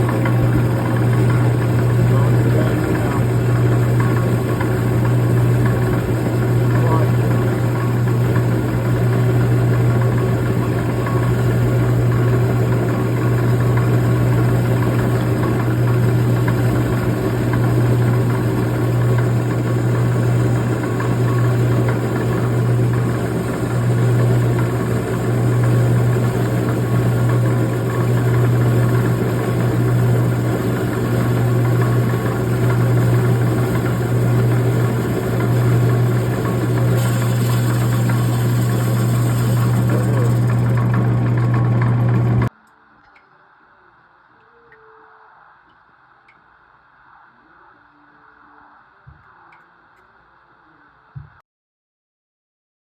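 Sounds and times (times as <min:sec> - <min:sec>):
rock saw humming: 0:00.0 - 0:42.5.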